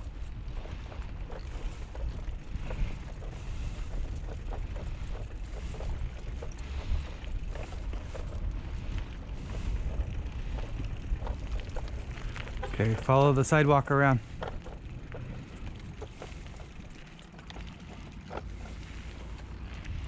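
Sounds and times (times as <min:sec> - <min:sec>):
bicycle rolling on concrete: 0:00.0 - 0:20.0
wind buffeting microphone: 0:00.0 - 0:20.0.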